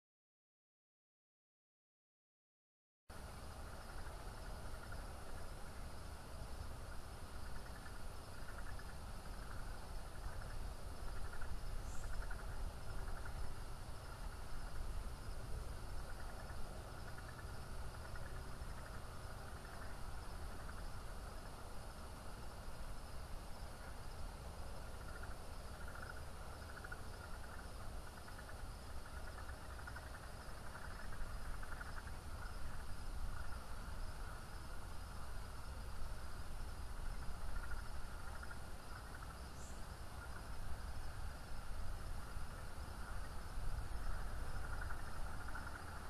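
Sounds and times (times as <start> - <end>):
insects or frogs trilling: 3.1 - 46.0.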